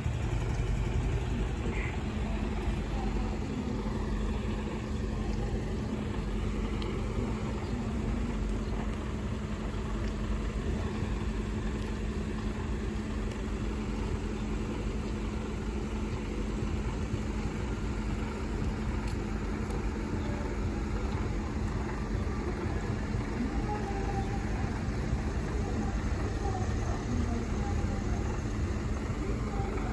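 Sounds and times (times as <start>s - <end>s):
vehicle engines idling: 0.0s - 29.9s.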